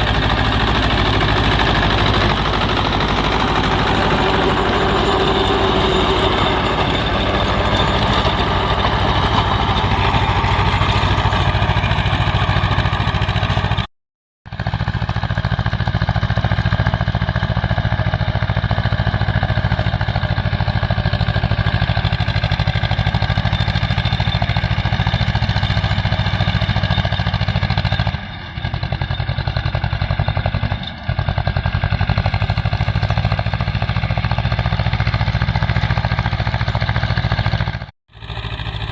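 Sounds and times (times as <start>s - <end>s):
tractor diesel engine running: 0.0s - 13.9s, 14.5s - 38.9s.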